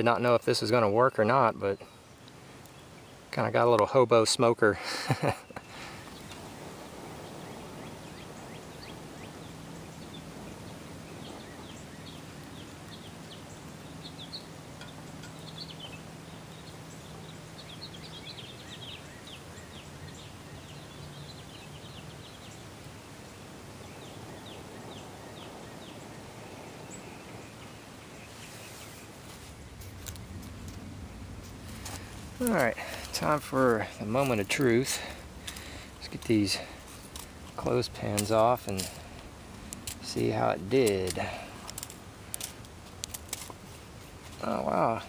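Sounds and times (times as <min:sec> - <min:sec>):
steady background hiss: 0:00.0 - 0:45.0.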